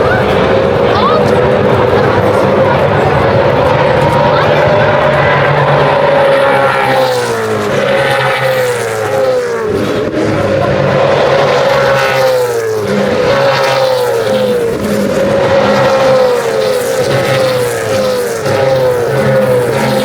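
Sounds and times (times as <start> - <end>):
race car engines: 0.0 - 20.0.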